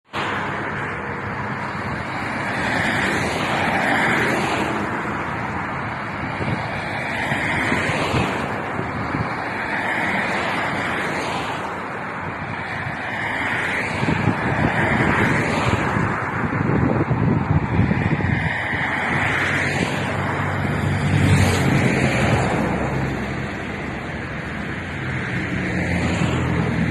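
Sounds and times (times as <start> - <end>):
wind buffeting microphone: 0.5 - 26.9.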